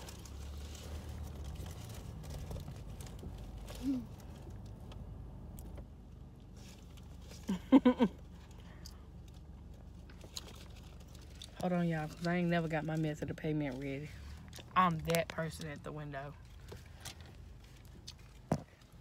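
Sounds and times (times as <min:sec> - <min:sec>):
car idling from inside: 0:00.0 - 0:19.0.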